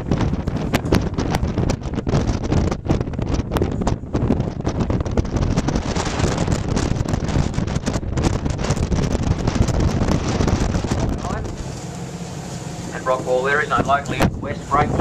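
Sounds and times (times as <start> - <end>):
low rumble from boat: 0.0 - 15.0
wind buffeting microphone: 0.0 - 15.0.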